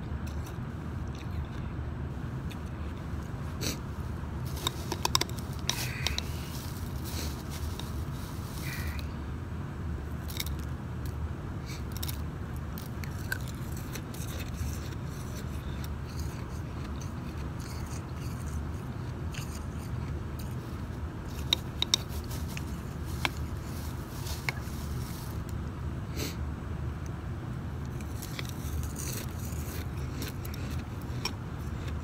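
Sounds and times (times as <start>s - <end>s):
low background hum: 0.0s - 32.0s.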